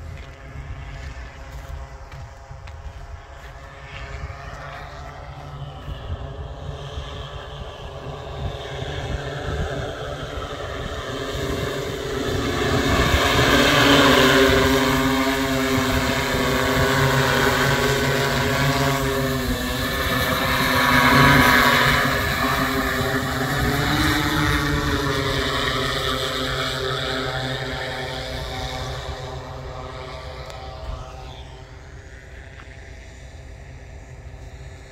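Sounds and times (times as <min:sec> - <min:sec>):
drone propellers humming: 0:00.0 - 0:34.9.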